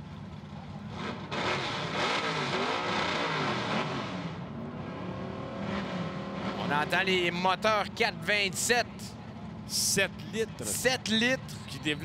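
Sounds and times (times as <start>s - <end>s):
race truck engines revving: 0.0s - 12.0s.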